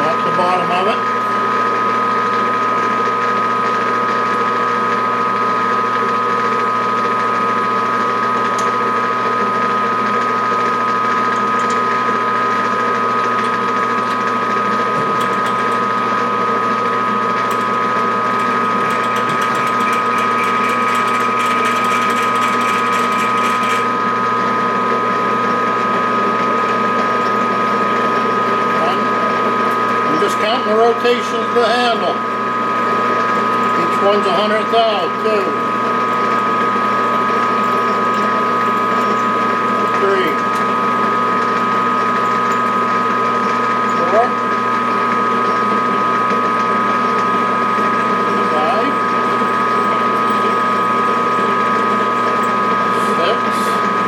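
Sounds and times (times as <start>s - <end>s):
drill spindle humming and whining: 0.0s - 54.0s.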